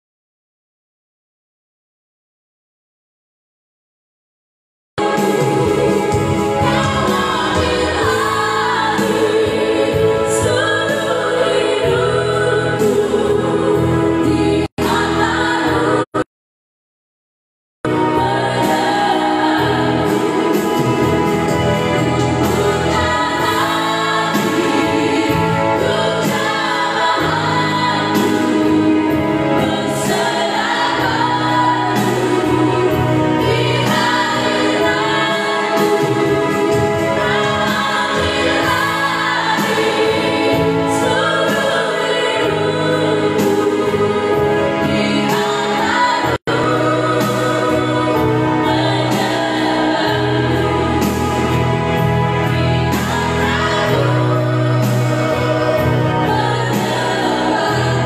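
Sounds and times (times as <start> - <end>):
keyboard sustained bass notes: 5.0 - 16.2, 17.9 - 58.0
women singing gospel song: 5.0 - 16.2, 17.9 - 58.0.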